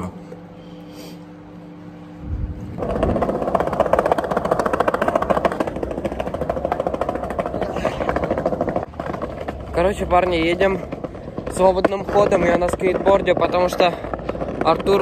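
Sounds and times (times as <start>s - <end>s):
skateboard rolling over paving: 2.8s - 15.0s.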